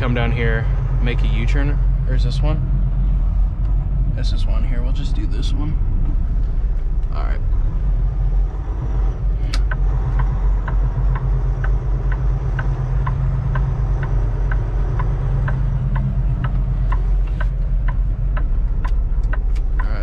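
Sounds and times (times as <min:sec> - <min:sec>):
diesel engine rumble: 0:00.0 - 0:20.0
turn indicator ticking: 0:00.0 - 0:20.0.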